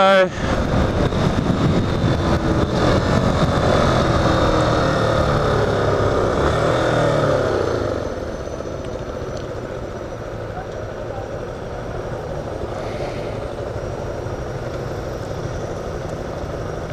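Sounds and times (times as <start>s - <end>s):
motorcycle engine running hard: 0.0s - 16.9s.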